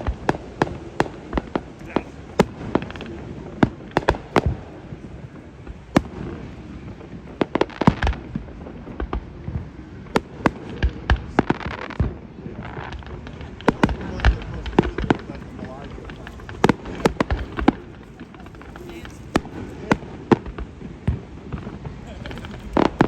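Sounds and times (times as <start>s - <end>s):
firework bangs: 0.0s - 23.0s
firework crackling: 0.0s - 23.0s.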